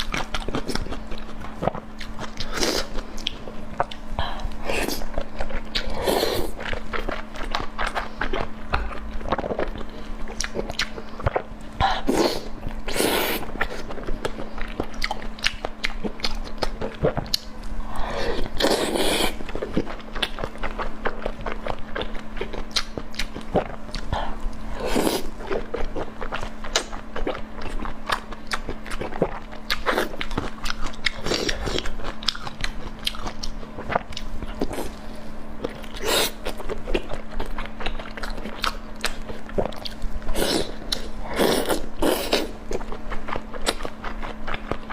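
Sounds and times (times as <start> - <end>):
person chewing and crunching: 0.0 - 44.9.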